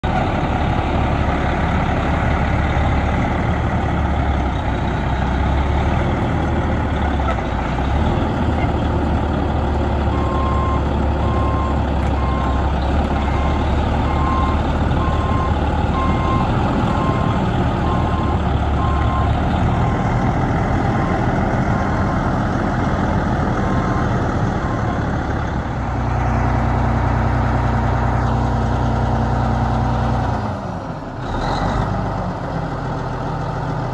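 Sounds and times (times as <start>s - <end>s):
diesel truck engine running: 0.0s - 33.9s.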